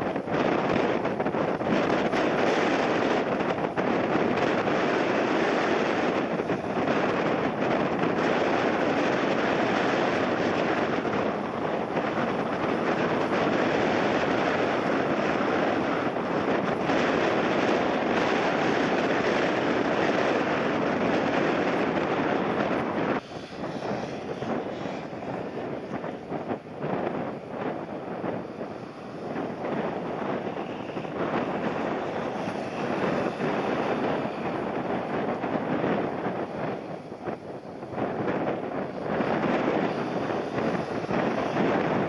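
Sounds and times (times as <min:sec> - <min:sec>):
jet engine rumble: 0:00.0 - 0:42.0
wind on microphone: 0:00.0 - 0:42.0.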